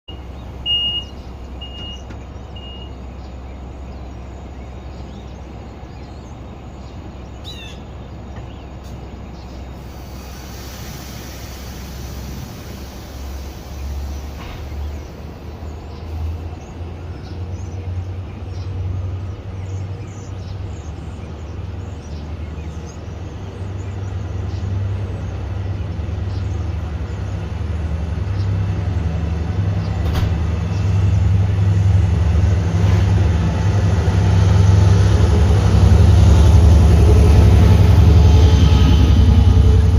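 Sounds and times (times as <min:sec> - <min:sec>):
train engine rumble: 0:00.0 - 0:39.9.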